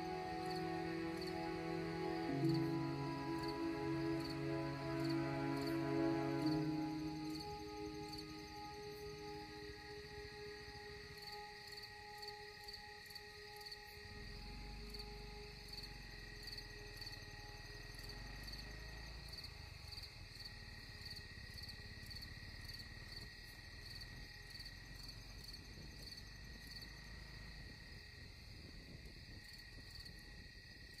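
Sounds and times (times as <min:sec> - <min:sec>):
insects chirping: 0:00.0 - 0:31.0
steady high insect trill: 0:00.0 - 0:31.0.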